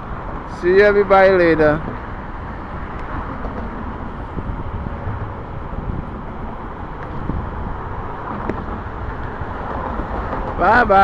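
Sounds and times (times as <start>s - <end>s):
highway traffic noise: 0.0s - 11.0s
wind rumbling on microphone: 0.0s - 11.0s.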